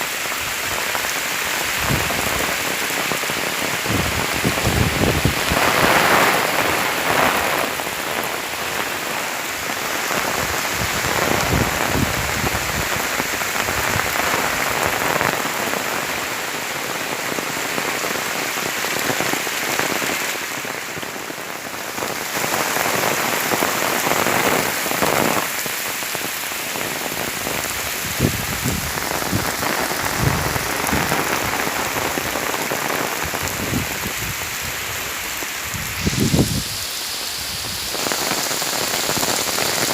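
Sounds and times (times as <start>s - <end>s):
wind-driven rain pouring: 0.0s - 39.9s.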